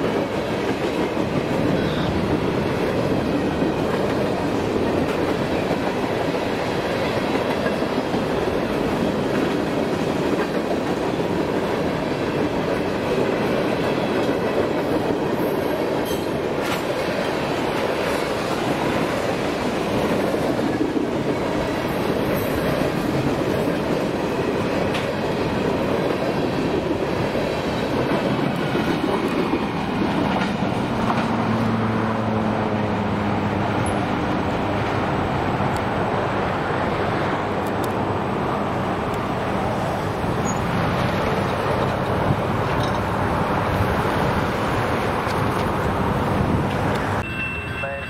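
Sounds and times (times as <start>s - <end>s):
clickety-clack over rail joints: 0.0s - 36.0s, 37.5s - 47.2s
train wheels rumbling on rails: 0.0s - 48.0s.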